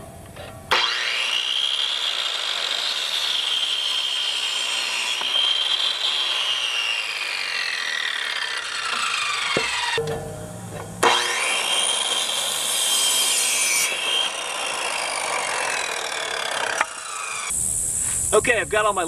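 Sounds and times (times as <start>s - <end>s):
saw blade cutting wood: 0.7s - 17.6s
miter saw motor whine: 0.7s - 17.9s.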